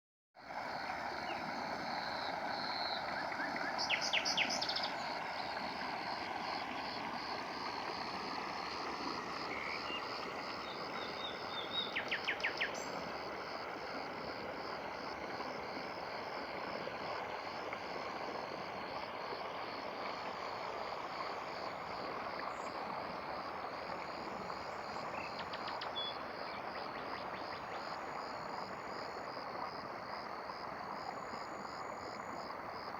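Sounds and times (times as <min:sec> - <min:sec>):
running water: 0:00.4 - 0:32.9.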